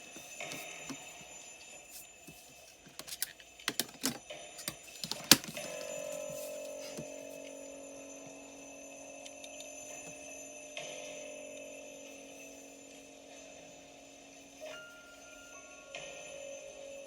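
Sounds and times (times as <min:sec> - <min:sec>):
bell ringing tone: 0:00.0 - 0:02.7, 0:05.6 - 0:17.0.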